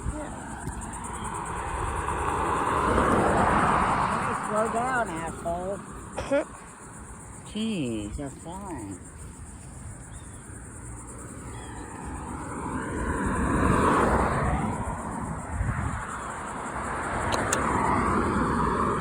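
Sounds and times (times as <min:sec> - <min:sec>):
cars driving past at speed: 0:00.0 - 0:09.6, 0:10.4 - 0:19.0.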